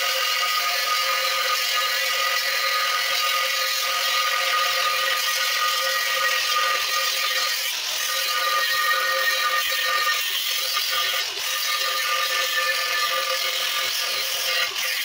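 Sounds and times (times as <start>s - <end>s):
angle grinder cutting steel: 0.0s - 15.0s.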